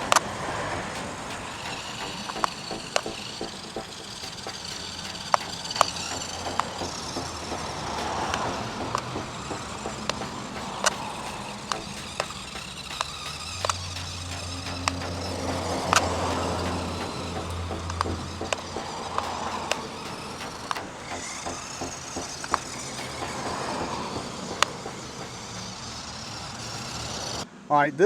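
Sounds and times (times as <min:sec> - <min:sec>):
plastic toy car clicks and knocks: 0:00.0 - 0:27.4
small electric motors running: 0:00.0 - 0:27.5.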